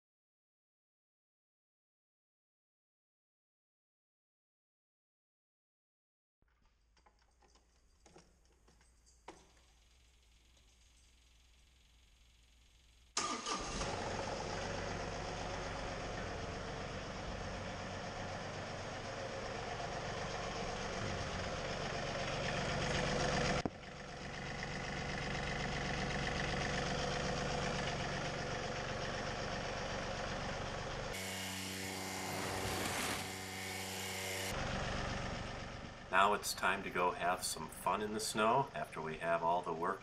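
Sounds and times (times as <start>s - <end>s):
engine running: 7.5s - 40.0s.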